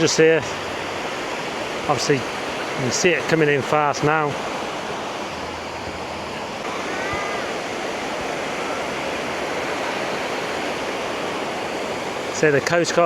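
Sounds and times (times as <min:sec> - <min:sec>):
waves breaking on beach: 0:00.0 - 0:13.0
faint distant call: 0:00.5 - 0:12.8.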